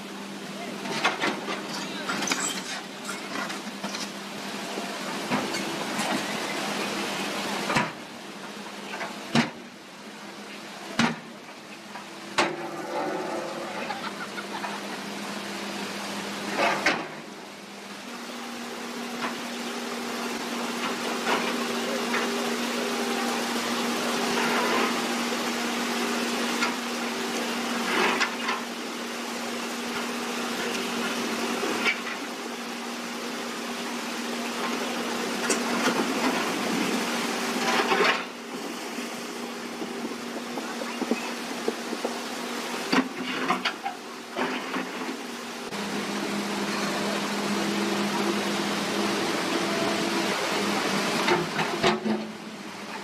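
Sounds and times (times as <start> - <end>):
excavator diesel engine hum: 0.0 - 53.0
water rushing through weir: 0.0 - 53.0.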